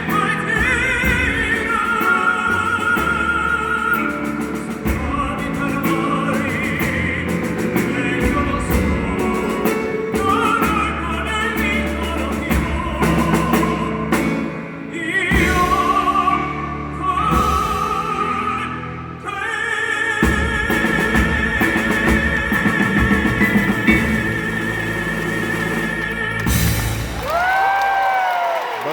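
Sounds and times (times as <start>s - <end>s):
drums and bass: 0.0s - 19.0s, 20.1s - 28.2s.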